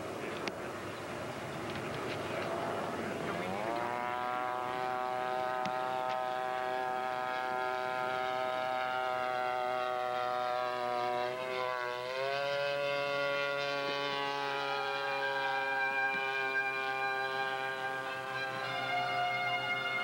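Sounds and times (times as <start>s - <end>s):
model plane engine buzzing whine: 0.0s - 20.0s.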